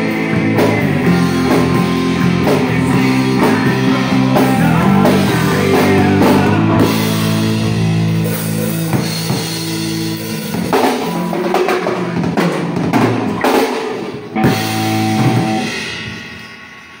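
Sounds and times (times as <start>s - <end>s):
drum kit hits: 0.0s - 17.0s
electric guitar: 0.0s - 17.0s.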